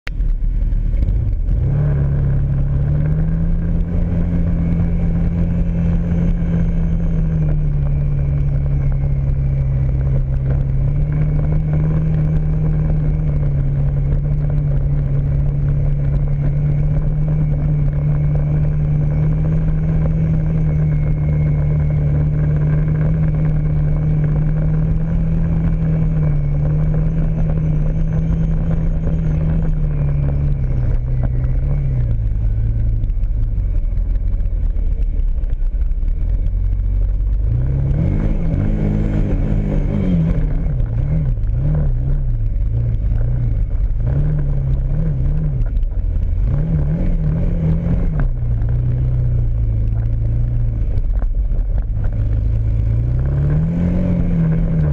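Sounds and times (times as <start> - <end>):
atv engine running: 0.1 - 54.9.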